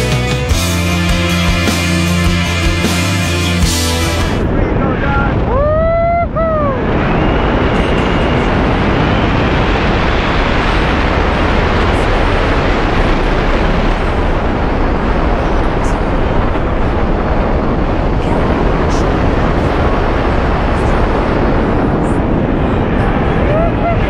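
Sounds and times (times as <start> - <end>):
wind buffeting microphone: 4.3 - 24.0.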